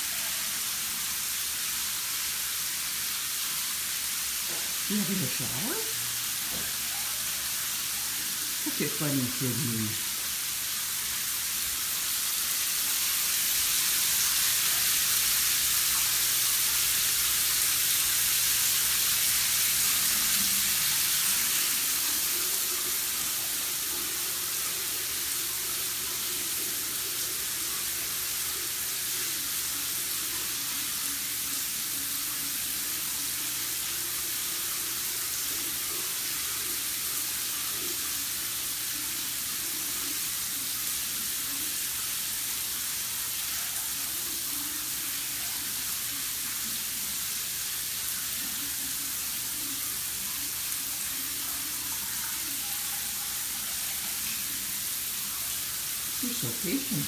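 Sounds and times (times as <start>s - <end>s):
shower water spraying on tiles: 0.0s - 57.0s.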